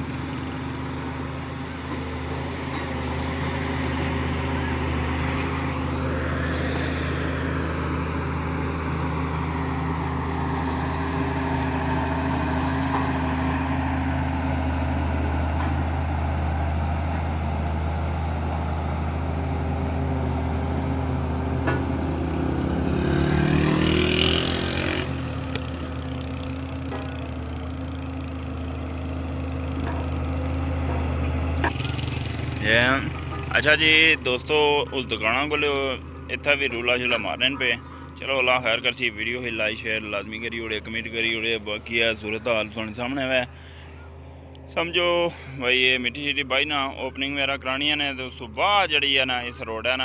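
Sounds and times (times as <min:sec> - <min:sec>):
engine idling: 0:00.0 - 0:50.0
vehicles passing by: 0:00.0 - 0:50.0.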